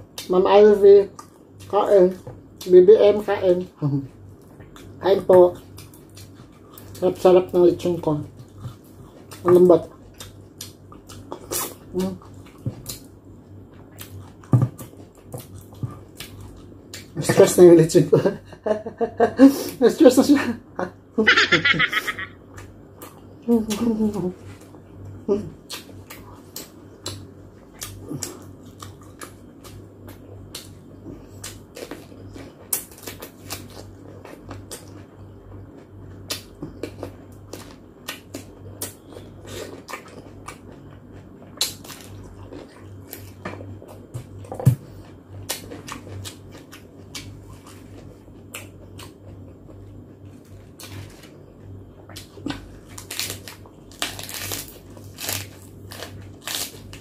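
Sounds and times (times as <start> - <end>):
faint low hum: 0.0 - 57.0
person chewing: 0.1 - 2.7, 4.2 - 17.2, 21.3 - 57.0.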